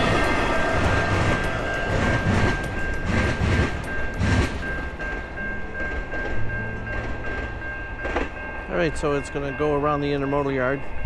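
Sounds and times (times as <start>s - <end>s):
train wheels clacking: 0.0s - 10.6s
crossing warning bell ringing: 0.0s - 11.0s.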